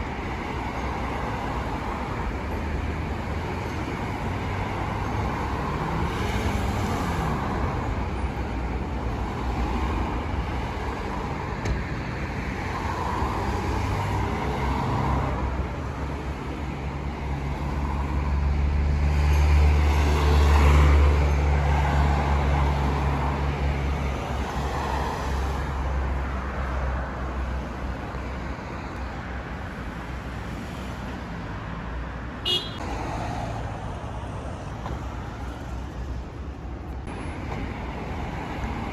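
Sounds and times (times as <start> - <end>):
passing cars: 0.0 - 38.9.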